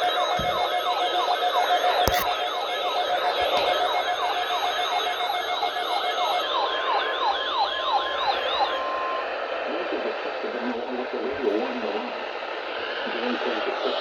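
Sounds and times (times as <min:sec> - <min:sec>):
falling electronic siren sweep: 0:00.0 - 0:14.0
steady alarm tone: 0:00.0 - 0:14.0.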